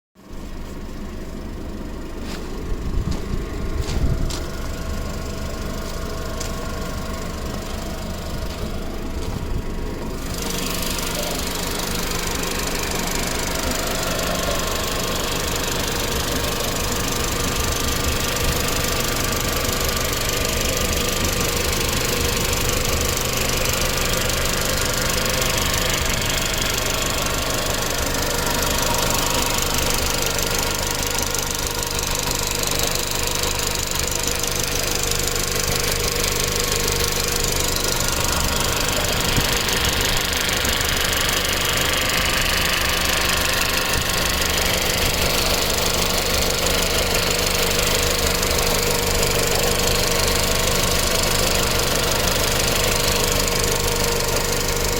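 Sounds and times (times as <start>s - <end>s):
car engine idling with ticking: 0.2s - 54.9s.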